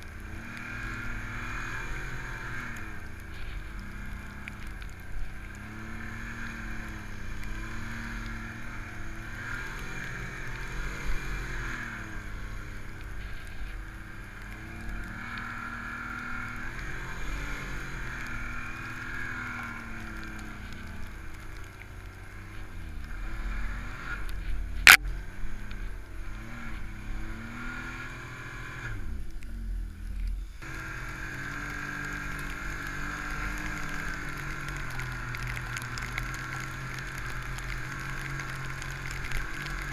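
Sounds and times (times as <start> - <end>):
snowmobile engine revving: 0.0 - 29.7, 30.6 - 39.9.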